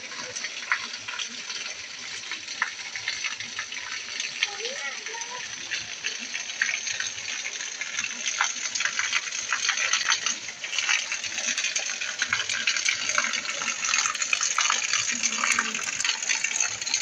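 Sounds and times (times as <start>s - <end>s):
heavy rain on pavement: 0.0s - 17.0s
water gushing from drain pipe: 0.0s - 17.0s.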